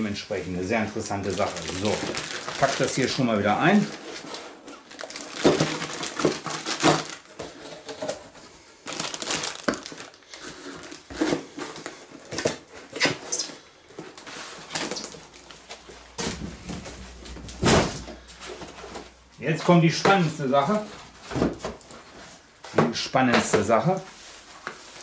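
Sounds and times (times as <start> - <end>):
plastic wrap rustling: 0.1 - 22.7, 23.7 - 25.0.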